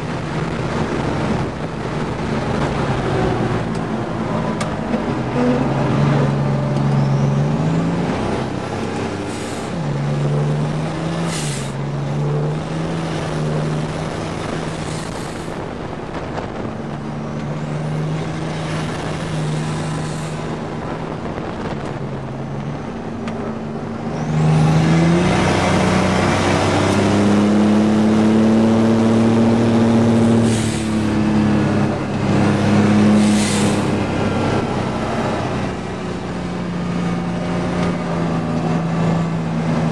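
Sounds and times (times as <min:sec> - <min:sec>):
engine revving at racing pace: 0:00.0 - 0:39.9.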